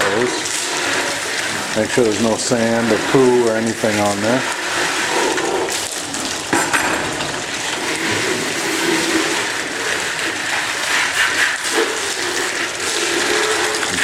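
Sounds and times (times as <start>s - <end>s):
hose spraying water: 0.0s - 14.0s.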